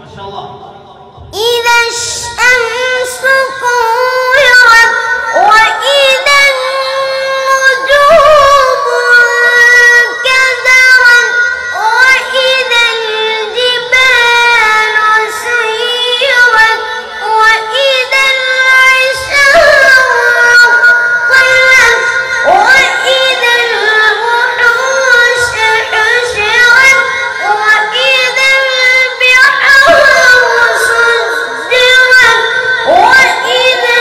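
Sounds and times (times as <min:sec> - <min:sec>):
boy reciting melodically: 0:00.0 - 0:34.0.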